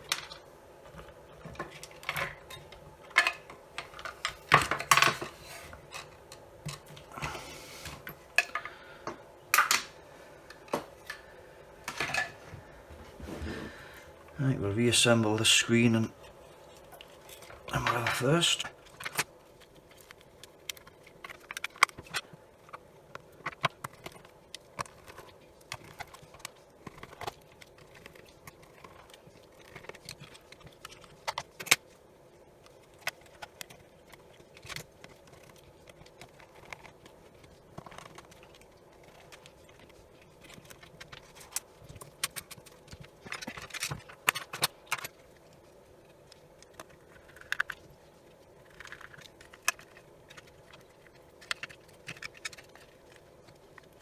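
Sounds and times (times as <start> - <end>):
plastic parts clicking and rattling: 0.0 - 12.4, 16.7 - 32.0, 32.6 - 54.0.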